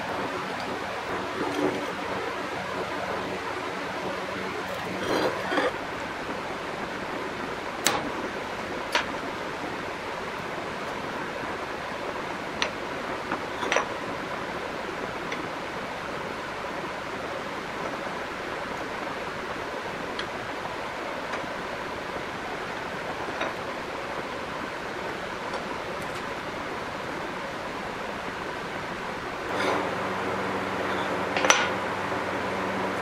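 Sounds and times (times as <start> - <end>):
steady background hiss: 0.0 - 33.0.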